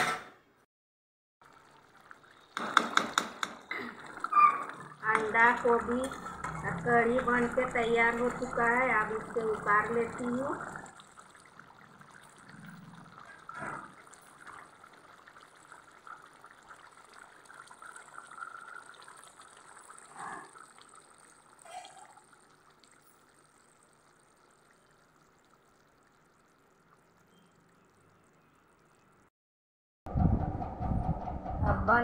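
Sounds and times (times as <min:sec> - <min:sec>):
curry bubbling and hissing: 0:01.4 - 0:29.2.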